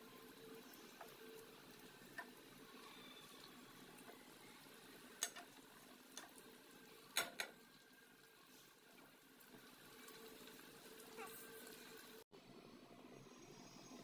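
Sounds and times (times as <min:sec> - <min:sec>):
curry bubbling in a pot: 0:00.0 - 0:12.2.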